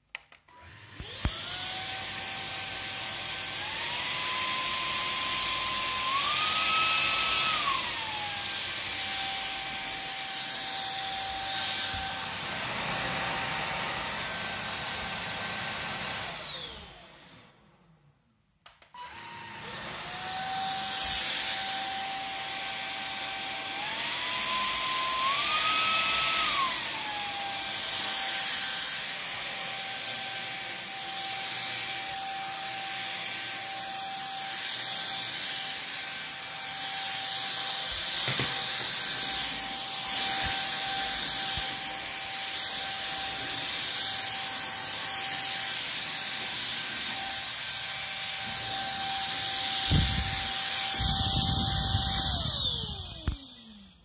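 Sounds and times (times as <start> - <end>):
vacuum motor whining: 0.5 - 17.8, 18.6 - 54.0.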